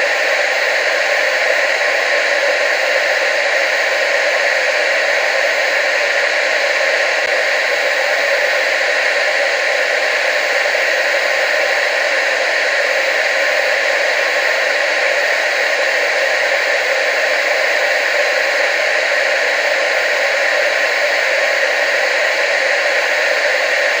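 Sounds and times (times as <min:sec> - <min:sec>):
television static hiss: 0:00.0 - 0:24.0.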